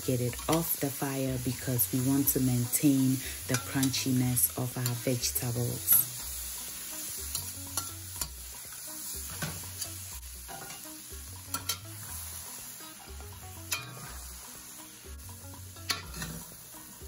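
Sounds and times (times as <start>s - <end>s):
vegetables sizzling in oil: 0.0s - 17.0s
spatula scraping pan: 2.4s - 17.0s.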